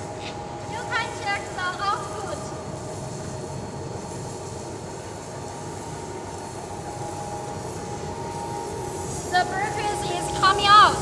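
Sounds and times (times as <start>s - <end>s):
faint machine whine: 0.0s - 11.0s.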